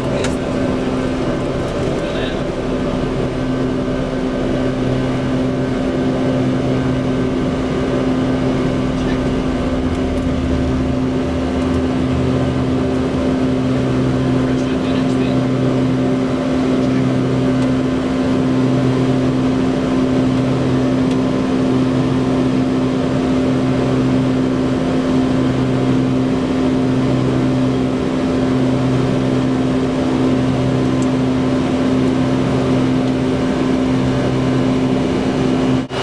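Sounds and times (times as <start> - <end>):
aircraft engine and airflow rush: 0.0 - 36.0
constant low hum: 0.0 - 36.0.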